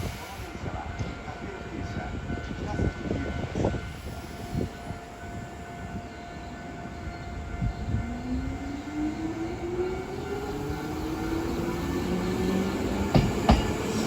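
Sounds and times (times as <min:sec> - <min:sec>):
train hum and rumble: 0:00.0 - 0:14.0.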